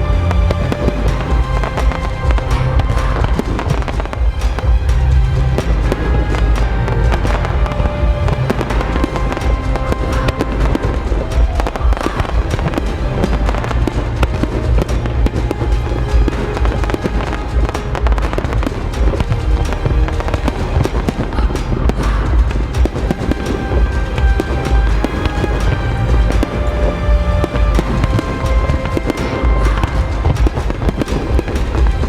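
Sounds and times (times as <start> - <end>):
music soundtrack: 0.0 - 32.0.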